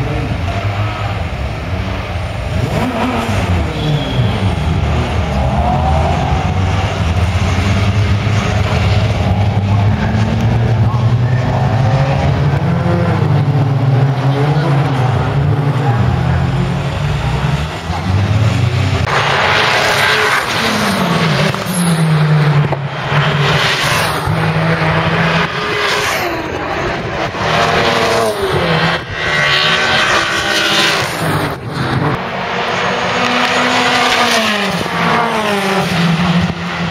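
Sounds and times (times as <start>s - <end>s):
racing cars driving past: 0.0s - 36.9s.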